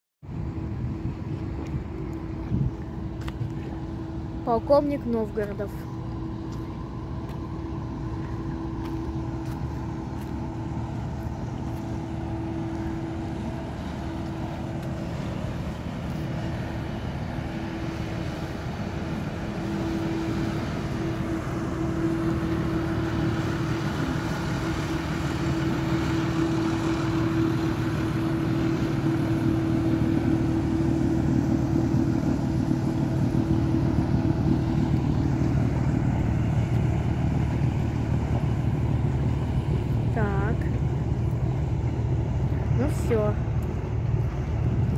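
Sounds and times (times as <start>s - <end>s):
ship diesel engine droning: 0.2s - 44.9s.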